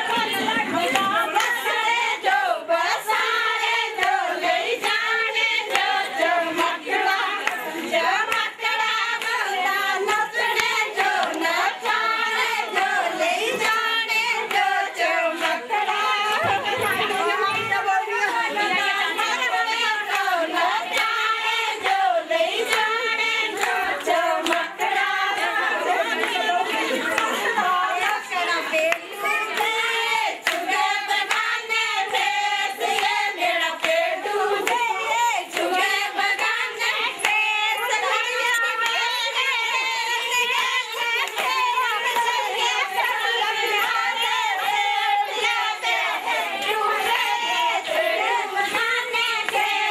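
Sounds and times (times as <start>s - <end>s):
handclaps: 0.0s - 49.9s
women singing folk song: 0.0s - 49.9s.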